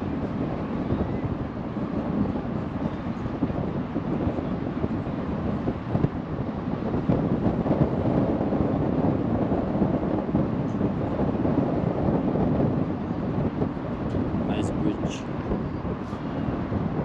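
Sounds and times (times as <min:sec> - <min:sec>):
boat running noise: 0:00.0 - 0:17.0
wind rushing over microphone: 0:00.0 - 0:17.0.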